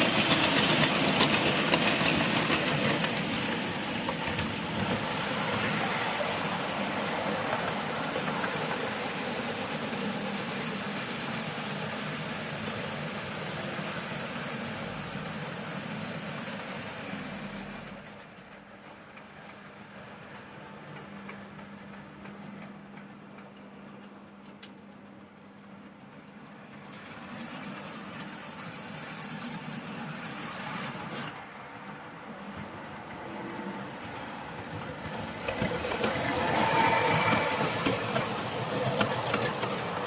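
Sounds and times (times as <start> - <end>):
wheels clicking on rails: 0.0 - 40.0.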